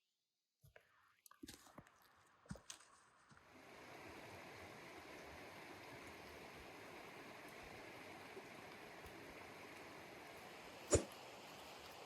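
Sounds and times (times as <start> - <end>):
stream running water: 1.5 - 12.0.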